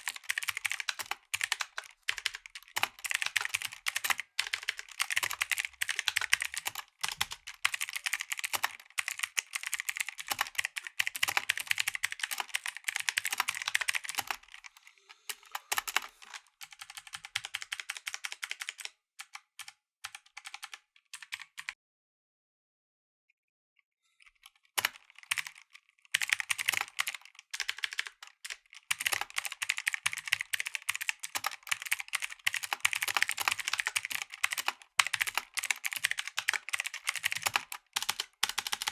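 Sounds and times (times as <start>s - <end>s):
mechanical keyboard typing: 0.0s - 21.8s, 24.2s - 38.9s.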